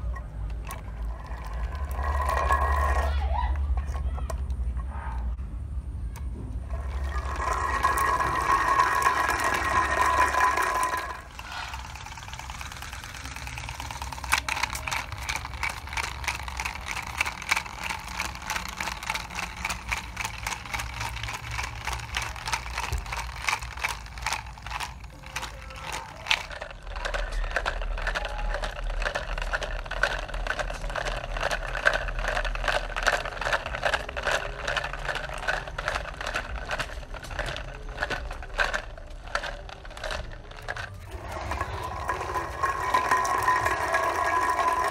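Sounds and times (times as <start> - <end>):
toy robot car buzzing and rattling: 0.0 - 4.0, 6.6 - 44.9.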